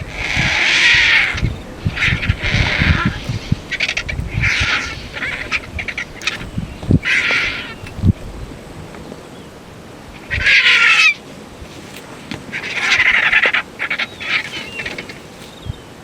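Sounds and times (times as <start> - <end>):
vultures hissing and squealing: 0.0 - 15.7.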